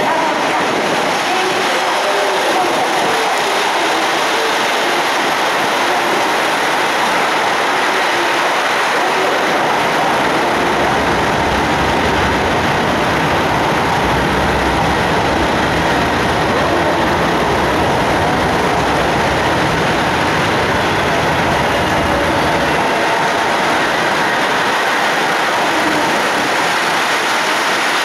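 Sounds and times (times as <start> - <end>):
diesel train engine rumble: 0.0 - 28.0
wheel and rail noise: 0.0 - 28.0.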